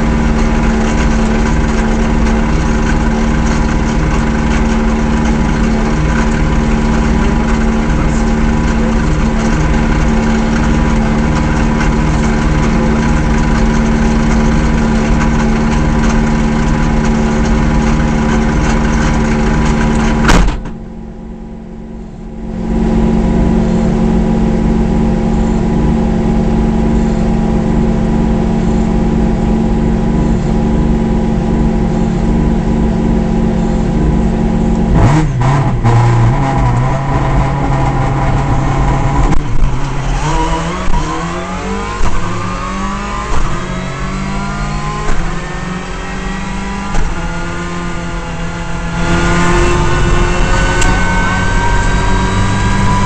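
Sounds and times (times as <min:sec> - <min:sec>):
engine accelerating through gear changes: 0:00.0 - 0:53.0
rally car engine running: 0:00.0 - 0:53.0.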